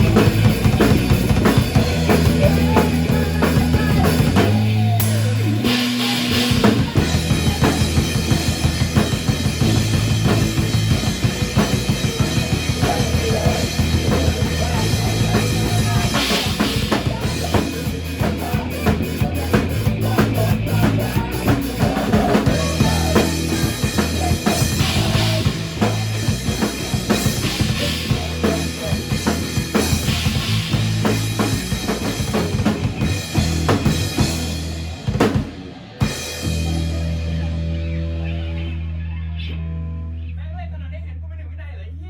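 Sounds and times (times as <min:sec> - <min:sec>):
band music: 0:00.0 - 0:40.8
low bass line: 0:00.0 - 0:42.0.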